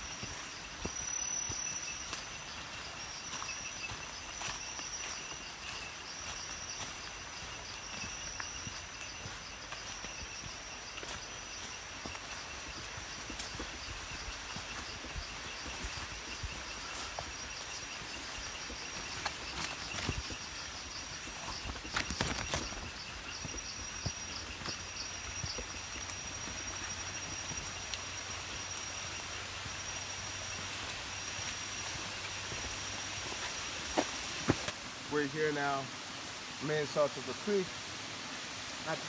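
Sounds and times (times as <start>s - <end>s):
footsteps brushing through undergrowth: 0.0s - 34.8s
insects calling high-pitched: 0.0s - 39.0s.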